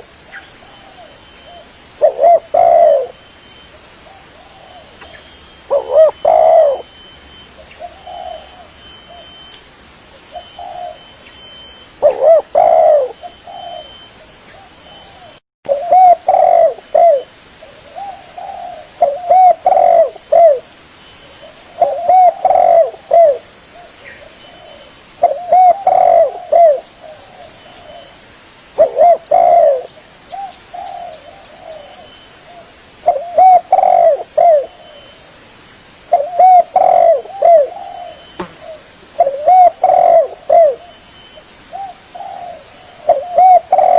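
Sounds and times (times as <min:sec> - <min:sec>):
dove cooing: 0:00.0 - 0:09.5, 0:10.2 - 0:28.2, 0:28.8 - 0:35.2, 0:36.1 - 0:43.9.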